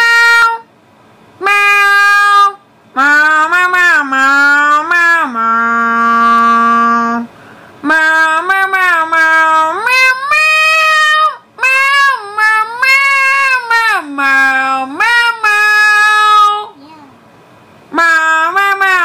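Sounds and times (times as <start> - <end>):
high cartoonish voice singing: 0.0 - 0.6, 1.4 - 17.0, 17.9 - 19.0.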